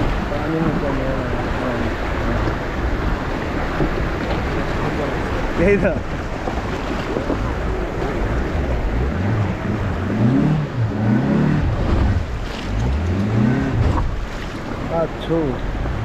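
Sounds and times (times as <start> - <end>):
water rushing and splashing: 0.0 - 16.0
wind noise on microphone: 0.0 - 16.0.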